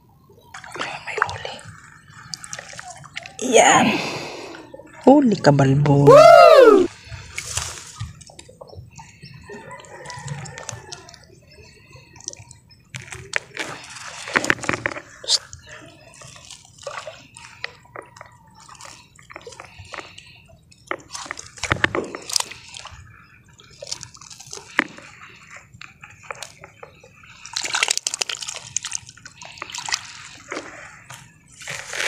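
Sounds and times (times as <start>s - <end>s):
water splashing and sloshing: 0.0s - 6.1s, 6.9s - 32.0s.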